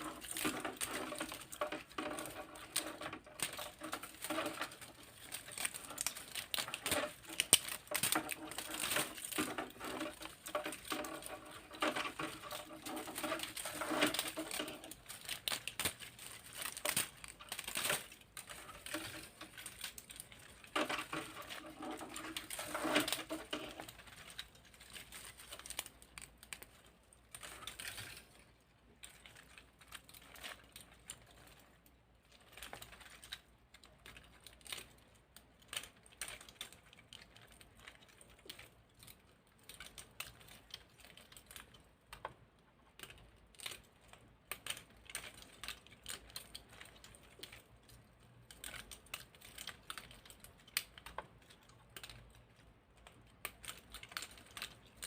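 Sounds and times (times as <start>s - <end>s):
plastic parts clicking: 0.0s - 55.0s.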